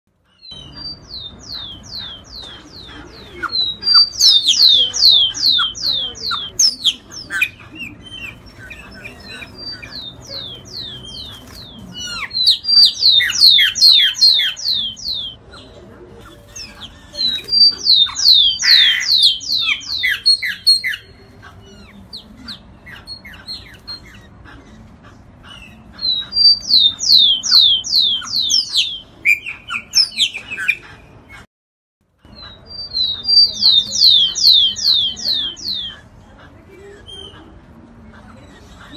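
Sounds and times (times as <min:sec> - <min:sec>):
soft scattered bird calls: 0:00.1 - 0:31.5, 0:32.1 - 0:38.9.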